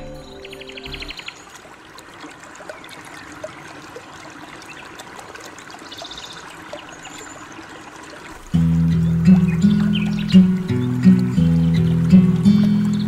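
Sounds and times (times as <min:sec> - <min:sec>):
water trickling in a stream: 0:00.1 - 0:13.0.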